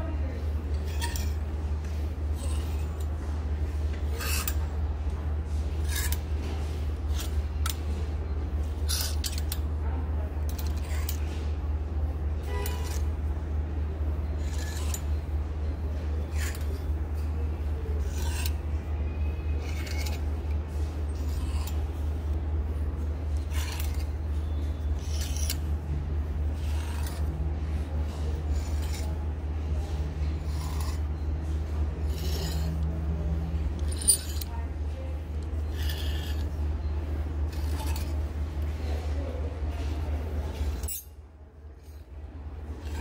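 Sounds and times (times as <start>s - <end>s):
steady low hum: 0.0s - 43.0s
plastic hangers scraping on rail: 0.6s - 9.8s, 10.4s - 11.6s, 12.4s - 13.2s, 14.3s - 36.6s, 37.3s - 38.8s, 41.8s - 43.0s.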